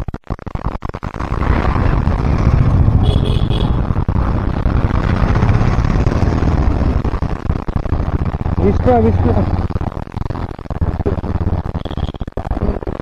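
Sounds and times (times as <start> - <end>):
vehicle engine and road noise: 1.2 - 12.2.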